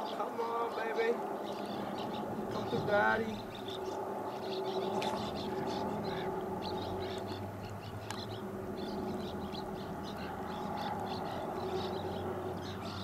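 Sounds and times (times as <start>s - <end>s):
birds chirping: 0.0s - 13.0s
steady low hum: 1.1s - 13.0s.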